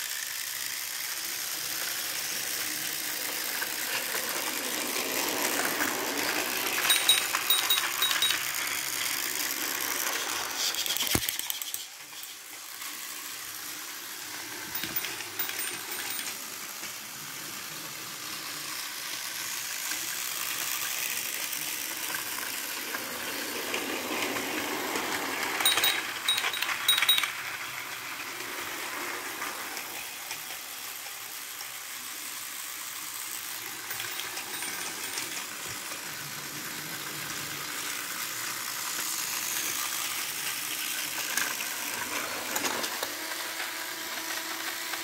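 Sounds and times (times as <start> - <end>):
toy train motor whirring: 0.0 - 45.0.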